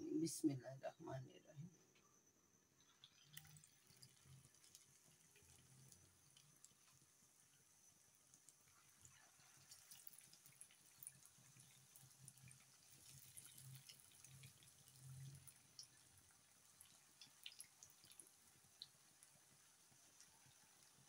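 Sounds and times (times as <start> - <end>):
chicken frying in oil: 2.8 - 21.0.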